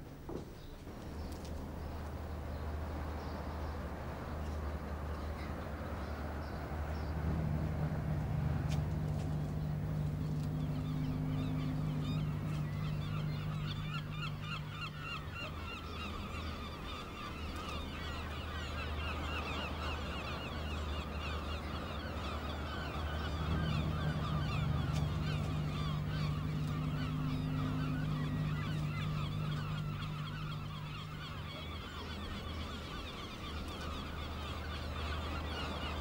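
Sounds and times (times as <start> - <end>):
steady low hum: 0.0 - 36.0
flock of birds chattering: 0.6 - 36.0.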